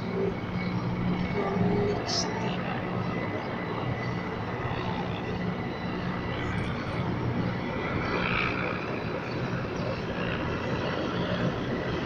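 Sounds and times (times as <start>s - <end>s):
helicopters flying past: 0.0s - 12.0s.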